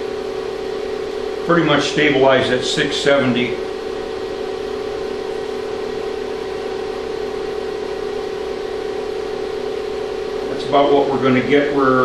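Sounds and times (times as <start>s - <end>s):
induction heater and fan humming: 0.0s - 12.0s.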